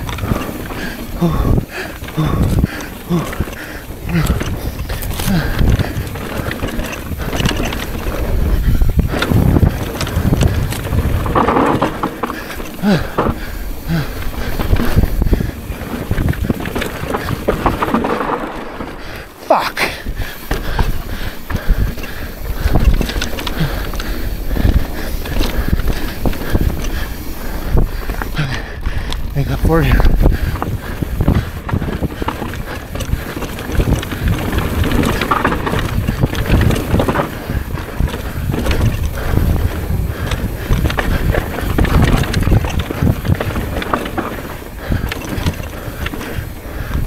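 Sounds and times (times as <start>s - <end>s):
continuous rumble: 0.0s - 47.0s
mountain bike clattering over rough ground: 0.0s - 47.0s
sharp rattles and clicks: 0.0s - 47.0s
wind buffeting microphone: 0.0s - 47.0s.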